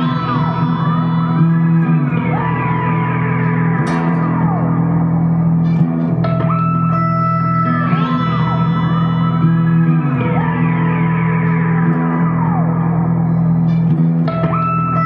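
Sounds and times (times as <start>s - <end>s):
electric guitar gliding delay tones: 0.0s - 15.0s.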